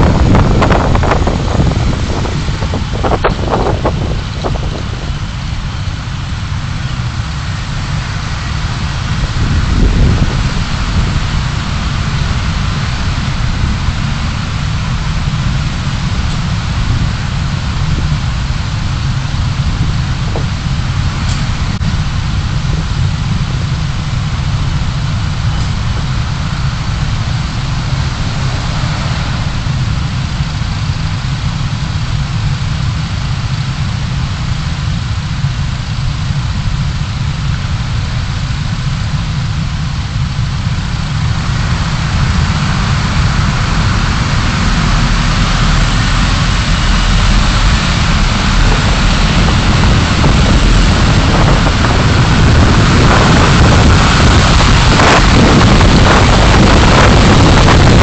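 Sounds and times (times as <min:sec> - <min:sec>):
car engine rumble: 0:00.0 - 0:58.0
tyre road noise: 0:00.0 - 0:58.0.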